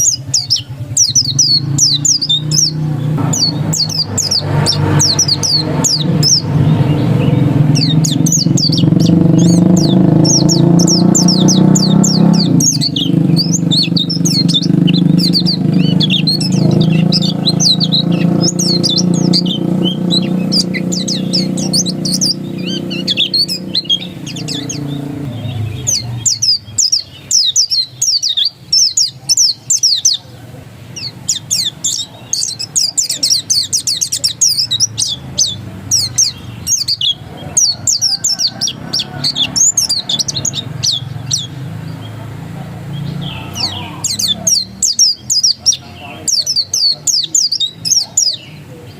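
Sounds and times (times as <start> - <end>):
bird chirping and trilling: 0.0 - 48.9.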